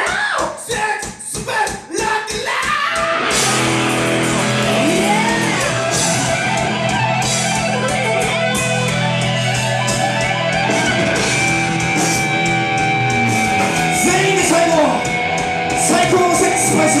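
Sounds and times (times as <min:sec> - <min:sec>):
rock band playing live: 0:02.1 - 0:17.0
electric guitar: 0:02.8 - 0:17.0.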